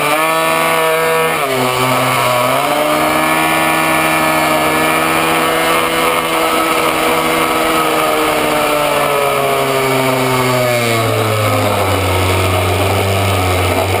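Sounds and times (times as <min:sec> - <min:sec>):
small two-stroke engine: 0:00.0 - 0:14.0.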